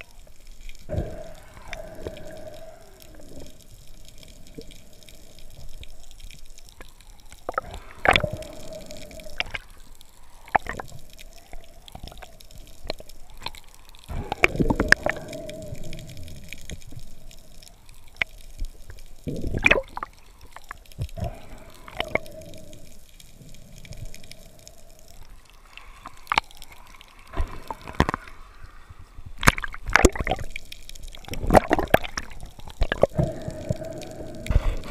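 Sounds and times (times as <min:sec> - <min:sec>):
water bubbling and gurgling: 0:00.0 - 0:34.9.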